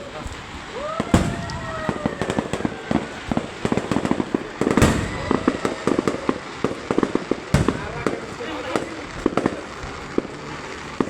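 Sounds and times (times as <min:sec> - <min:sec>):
fireworks bang: 0:00.0 - 0:11.0
fireworks crackling pops: 0:00.0 - 0:11.0.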